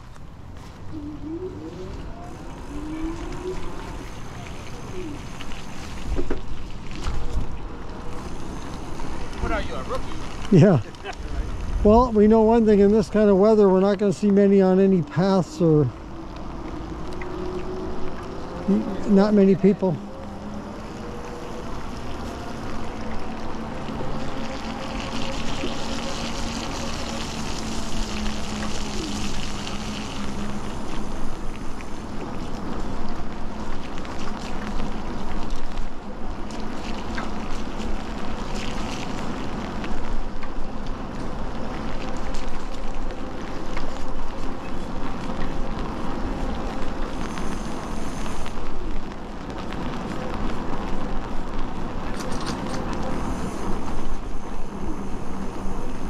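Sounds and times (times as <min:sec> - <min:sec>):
tyres hissing on wet surface: 0:00.1 - 0:56.0.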